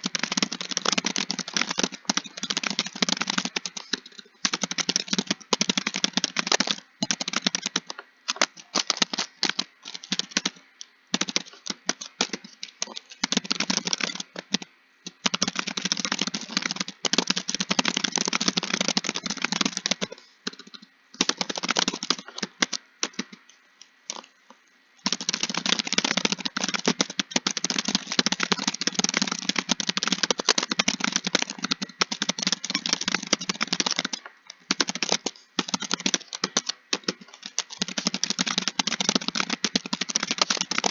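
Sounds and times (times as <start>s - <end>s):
computer keyboard typing: 0.0s - 23.4s, 25.0s - 40.9s.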